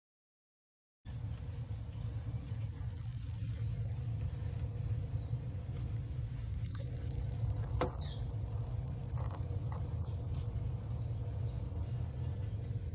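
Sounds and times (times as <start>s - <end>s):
low background hum: 1.1s - 12.9s.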